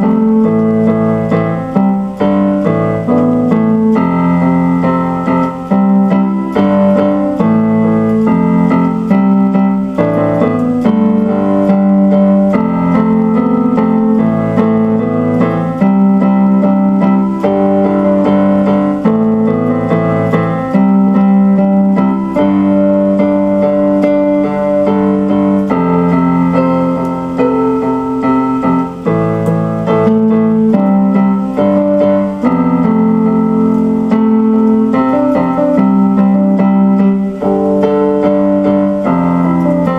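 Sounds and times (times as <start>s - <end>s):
electric piano playing chords: 0.0s - 39.9s.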